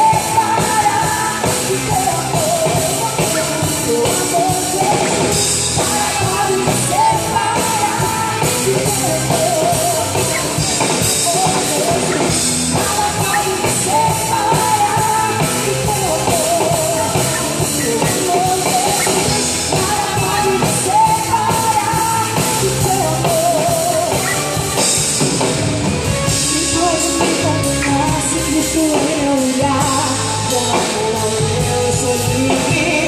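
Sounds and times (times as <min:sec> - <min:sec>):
drum kit: 0:00.0 - 0:33.0
rock band playing: 0:00.0 - 0:33.0
wavering lead melody: 0:00.0 - 0:33.0.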